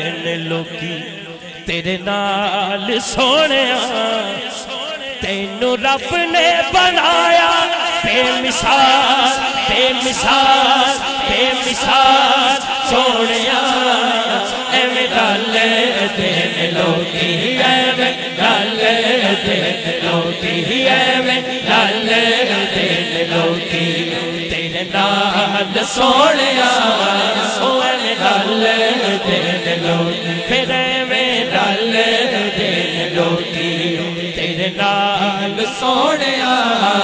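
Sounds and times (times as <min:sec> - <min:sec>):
lead voice holding long notes: 0:00.0 - 0:37.0
men chanting and singing: 0:00.0 - 0:37.0.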